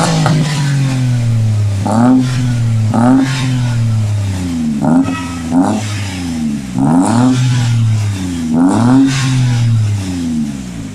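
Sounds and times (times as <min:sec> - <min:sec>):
car engine revving from idle: 0:00.0 - 0:10.9.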